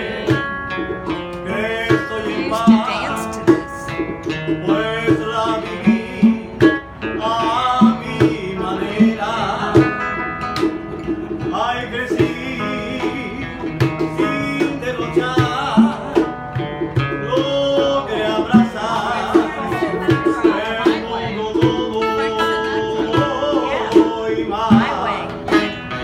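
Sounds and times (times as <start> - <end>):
acoustic guitars playing: 0.0 - 26.0
cajon drum beat: 0.0 - 26.0
man singing: 0.0 - 26.0.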